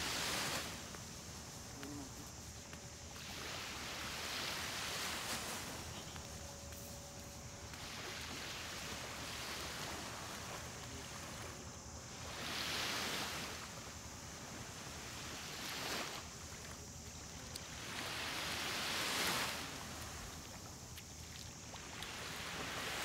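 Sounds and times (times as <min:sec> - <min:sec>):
small waves washing onto sand: 0:00.0 - 0:23.0.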